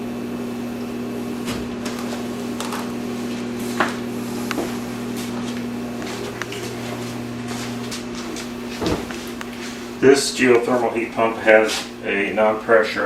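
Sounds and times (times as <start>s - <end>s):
heat pump electric hum: 0.0s - 13.0s.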